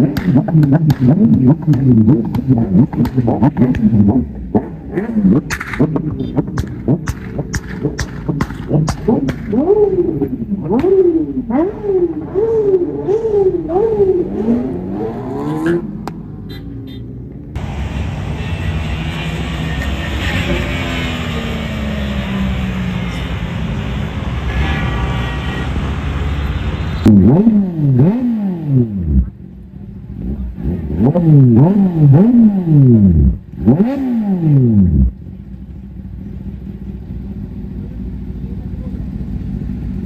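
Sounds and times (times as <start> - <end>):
motorcycle throttle blips: 0.0 - 17.7, 25.2 - 40.0
motorcycle engine and road noise: 0.0 - 40.0.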